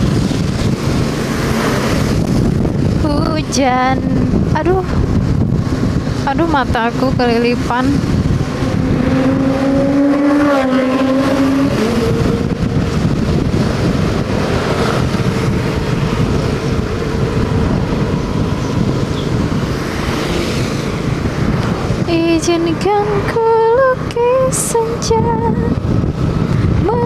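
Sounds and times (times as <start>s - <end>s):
motorcycle engine hum: 0.0s - 27.0s
wind rushing over microphone: 0.0s - 27.0s.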